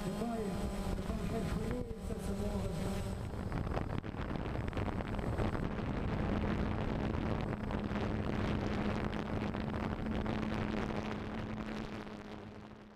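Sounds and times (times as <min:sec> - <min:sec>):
wind rushing over microphone: 0:00.0 - 0:12.6
helicopter rotors humming: 0:00.0 - 0:12.9.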